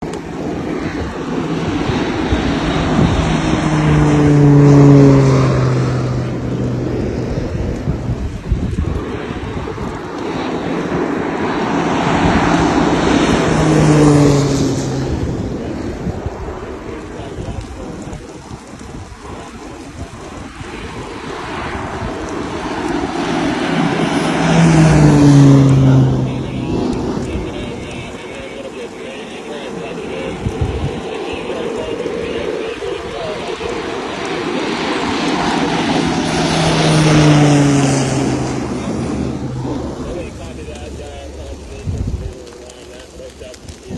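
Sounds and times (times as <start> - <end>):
propeller plane flying overhead: 0.0 - 43.9.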